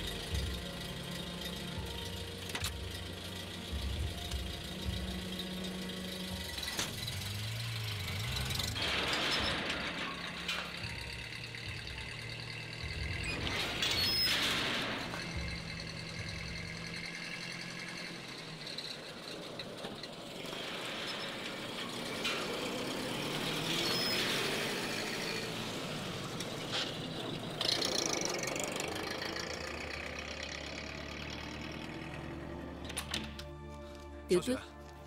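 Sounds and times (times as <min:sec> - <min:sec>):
car engine driving past: 0:04.7 - 0:33.3.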